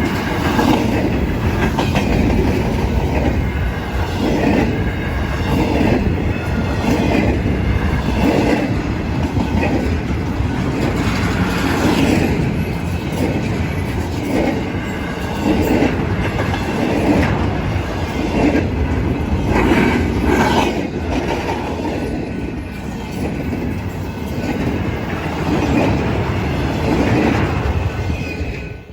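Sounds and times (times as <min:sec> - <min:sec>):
freight train rumble: 0:00.0 - 0:28.9
wheels clattering over rail joints: 0:00.0 - 0:28.9.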